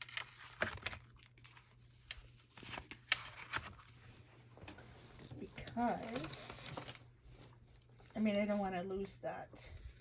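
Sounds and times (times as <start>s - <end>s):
paper and card rustling: 0.0s - 9.0s.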